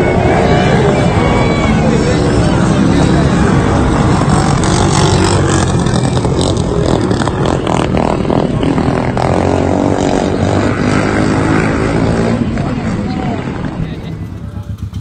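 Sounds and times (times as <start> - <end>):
motorcycles racing at high revs: 0.0 - 15.0.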